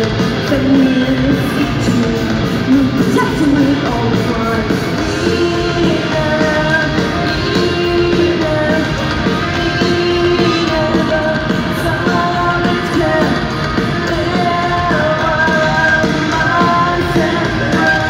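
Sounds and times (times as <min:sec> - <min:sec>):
drums: 0:00.0 - 0:18.0
electric guitars: 0:00.0 - 0:18.0
person singing: 0:00.0 - 0:18.0.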